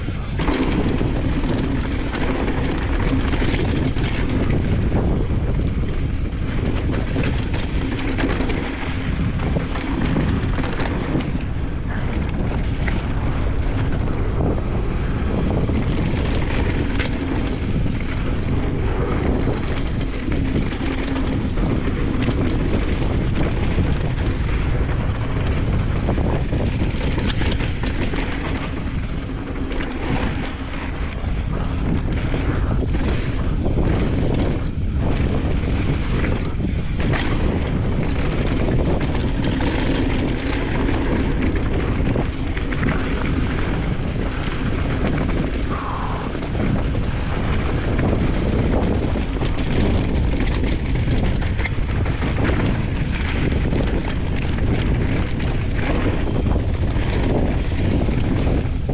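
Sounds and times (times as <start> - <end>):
bike rattles and knocks: 0.0 - 58.9
bike rolling over dirt trail: 0.0 - 58.9
wind buffeting camera: 0.0 - 58.9.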